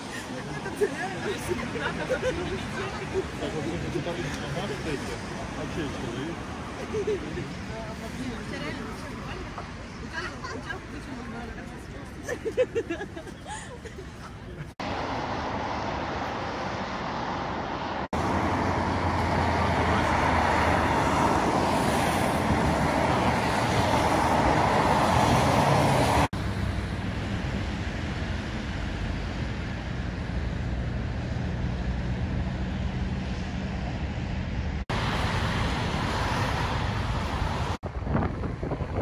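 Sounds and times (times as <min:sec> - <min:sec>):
road traffic passing cars: 0:00.0 - 0:39.0.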